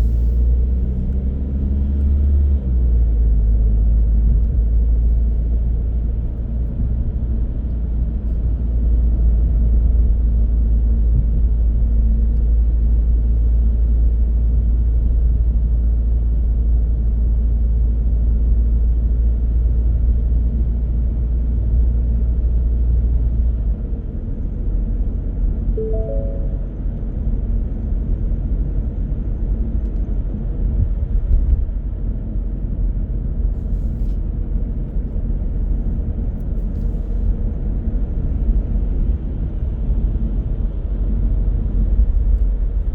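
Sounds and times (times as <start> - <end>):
car tyre and engine rumble: 0.0 - 25.7, 27.9 - 42.9.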